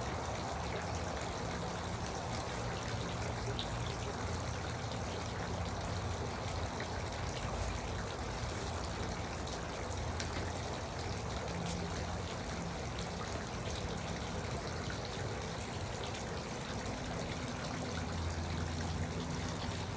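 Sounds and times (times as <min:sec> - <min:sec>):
fountain water trickling and splashing: 0:00.0 - 0:19.9.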